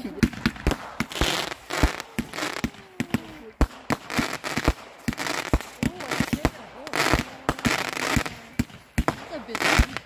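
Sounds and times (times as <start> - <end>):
fireworks bangs: 0.0 - 10.0
hissing crackle of fireworks: 0.0 - 10.0.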